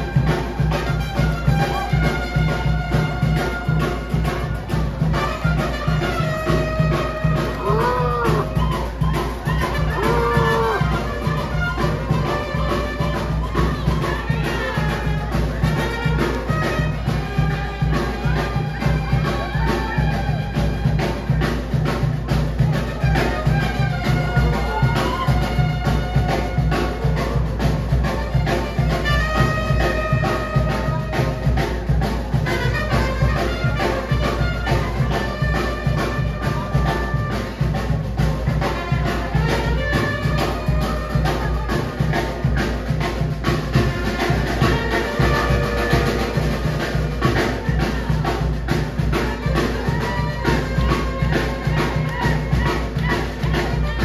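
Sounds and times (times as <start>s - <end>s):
brass band dance music: 0.0s - 54.0s.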